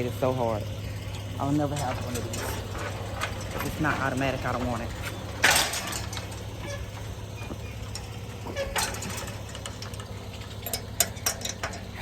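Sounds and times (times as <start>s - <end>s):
steady low hum: 0.0s - 12.0s
metal gate clattering shut: 1.0s - 12.0s.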